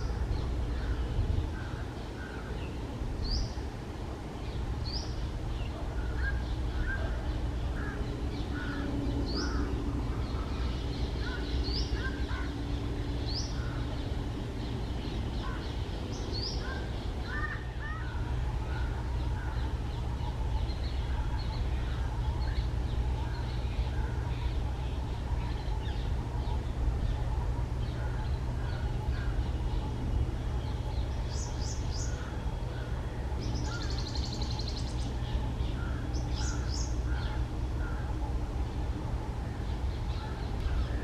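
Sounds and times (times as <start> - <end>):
birds chirping: 0.0 - 41.0
steady low rumble: 0.0 - 41.0
buzzy bird trills: 4.5 - 41.0.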